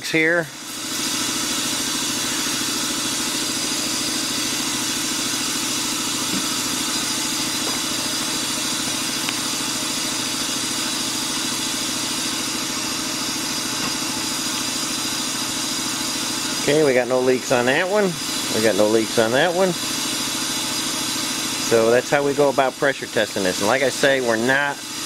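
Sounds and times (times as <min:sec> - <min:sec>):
compressed air hissing: 0:00.4 - 0:25.0.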